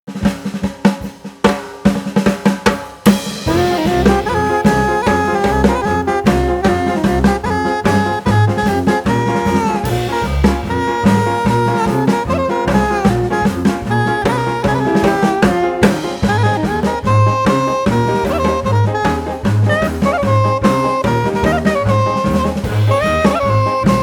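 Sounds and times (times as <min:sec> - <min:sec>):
drum kit playing: 0:00.1 - 0:24.0
band with bass line: 0:03.4 - 0:24.0.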